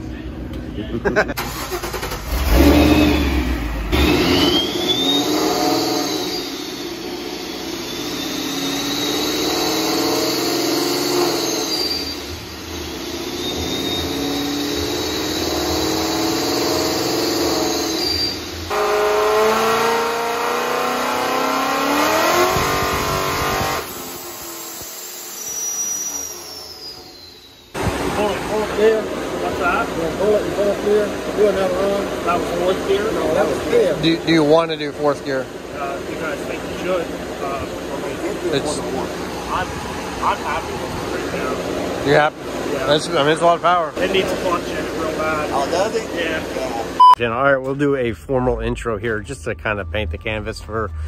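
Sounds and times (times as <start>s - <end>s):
supercharger whine: 0.0s - 47.2s
car engine revving: 1.1s - 47.0s.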